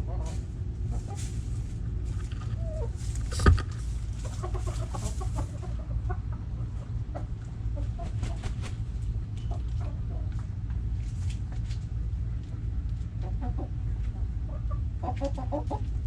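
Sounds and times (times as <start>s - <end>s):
low rumble: 0.0s - 15.0s
hens clucking: 0.0s - 16.0s.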